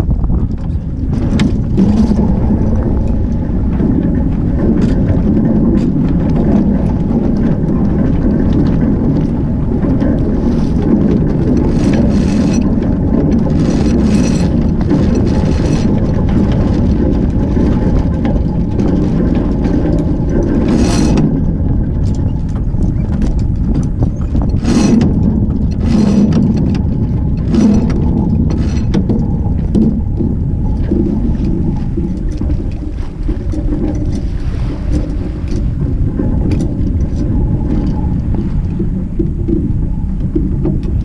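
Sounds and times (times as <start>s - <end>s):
hull rushing through water: 0.0s - 41.0s
wind rumbling on microphone: 0.0s - 41.0s.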